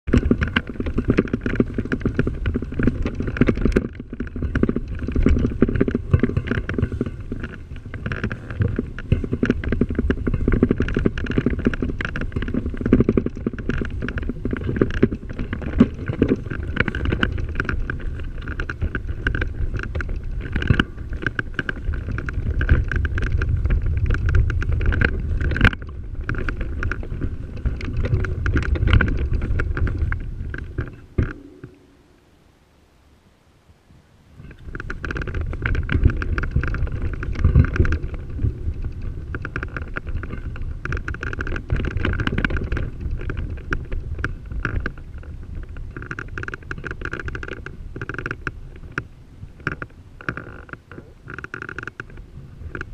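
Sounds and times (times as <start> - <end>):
wind buffeting microphone: 0.0 - 32.5, 33.7 - 52.9
tyres rumbling over dirt: 0.1 - 32.2, 34.4 - 52.9.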